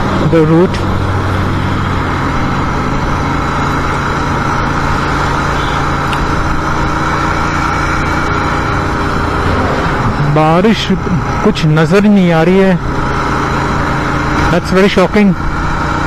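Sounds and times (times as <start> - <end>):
motorcycle engine running: 0.0 - 16.0
road and air noise: 0.0 - 16.0.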